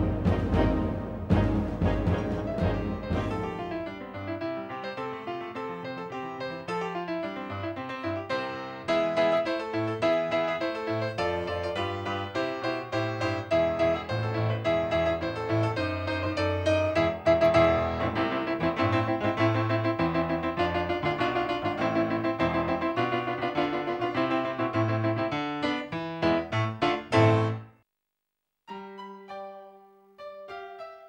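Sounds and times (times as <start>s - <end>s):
piano music: 0.0s - 27.7s, 28.7s - 31.0s.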